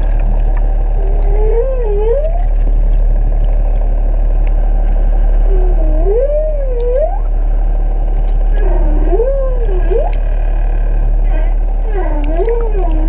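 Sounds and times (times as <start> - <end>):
whale song: 0.0 - 3.9, 5.0 - 13.0
low rumble: 0.0 - 13.0.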